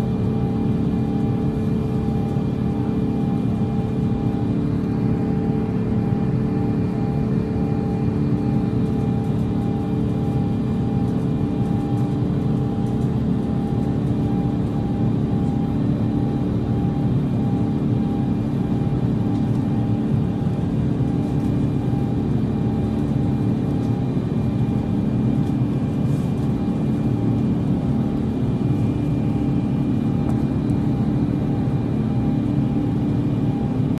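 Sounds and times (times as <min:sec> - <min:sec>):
jet engine drone: 0:00.0 - 0:34.0.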